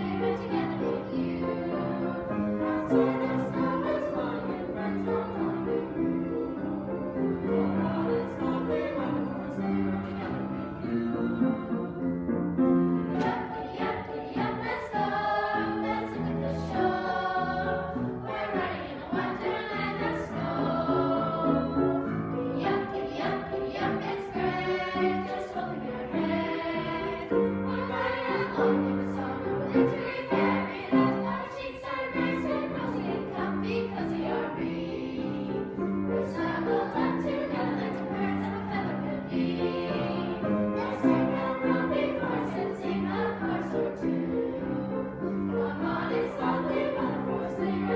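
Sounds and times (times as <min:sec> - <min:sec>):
children's choir singing: 0:00.0 - 0:47.9.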